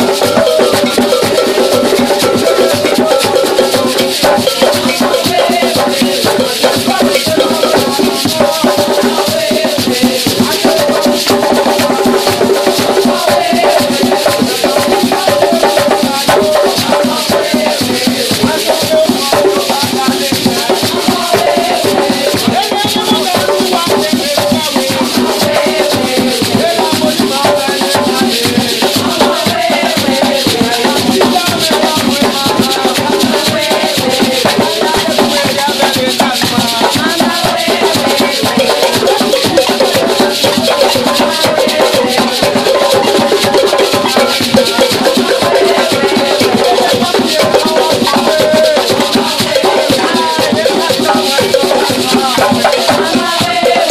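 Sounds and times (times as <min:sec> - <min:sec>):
hand drums beating: 0:00.0 - 0:53.9
shakers rattling: 0:00.0 - 0:53.9
voices singing: 0:00.0 - 0:53.9.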